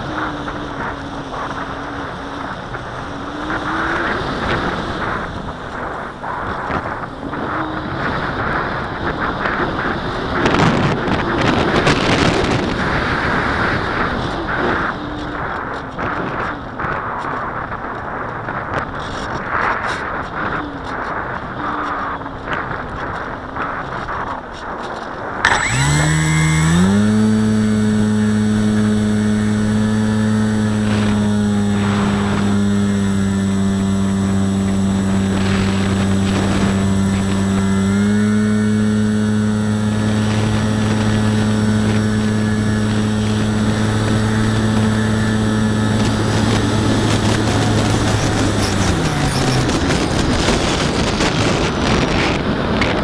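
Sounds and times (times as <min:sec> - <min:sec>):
electric motor and propeller whine: 0:00.0 - 0:24.4, 0:25.2 - 0:53.0
wind on microphone: 0:00.0 - 0:53.0.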